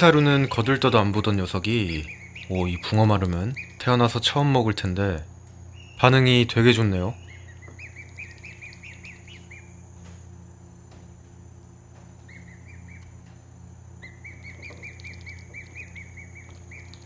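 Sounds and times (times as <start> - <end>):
cygnet peeping: 0.0 - 10.9, 11.5 - 17.0.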